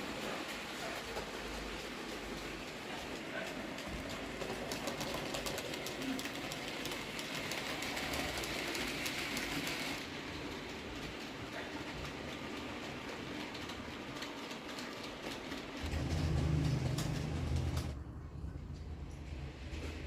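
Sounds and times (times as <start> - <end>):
train rolling on rails: 0.0 - 20.0
wheels clicking over track: 0.2 - 18.0.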